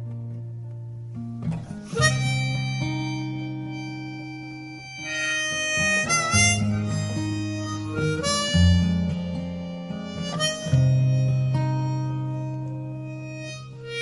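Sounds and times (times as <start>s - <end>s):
strummed guitar chords: 0.0s - 14.0s
harmonica solo: 1.8s - 14.0s.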